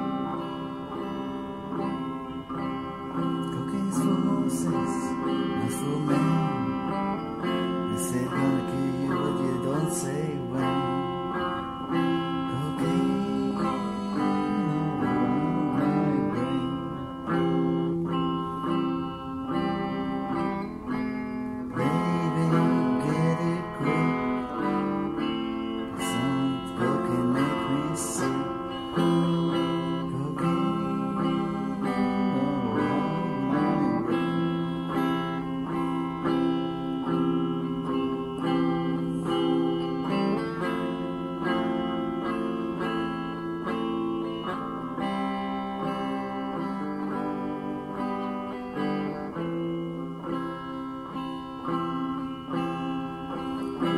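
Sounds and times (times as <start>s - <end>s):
blues guitar playing: 0.0s - 53.9s.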